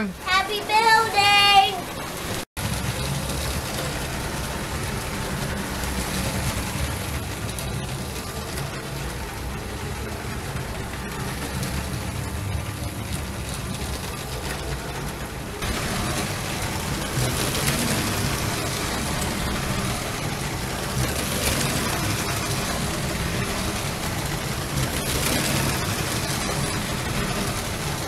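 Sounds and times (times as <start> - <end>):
toy train motor hum: 0.0 - 28.0
wheels rolling over track: 0.0 - 28.0.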